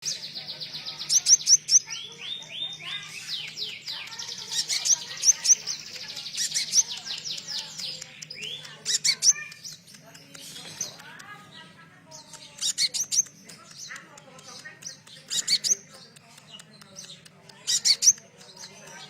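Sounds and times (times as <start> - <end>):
bird singing rapid varied song: 0.0 - 19.0.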